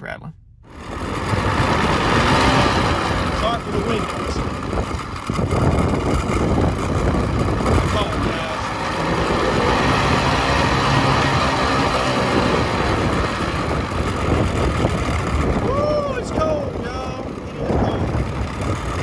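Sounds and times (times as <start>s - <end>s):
outboard motor running: 0.6s - 19.0s
wind buffeting microphone: 0.7s - 19.0s.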